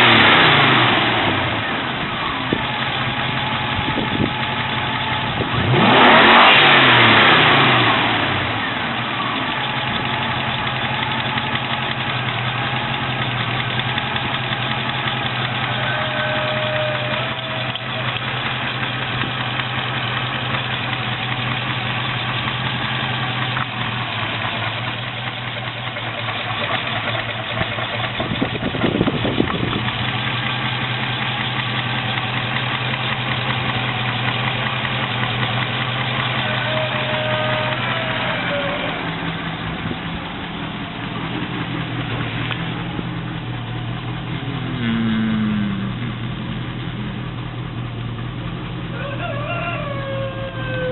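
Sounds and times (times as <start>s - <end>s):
engine idling and revving: 0.0s - 50.9s.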